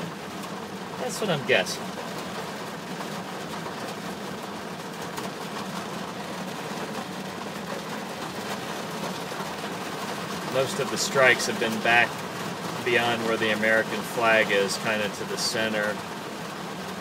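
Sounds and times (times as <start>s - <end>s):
low car hum: 0.0s - 17.0s
rain on car windshield and roof: 0.0s - 17.0s.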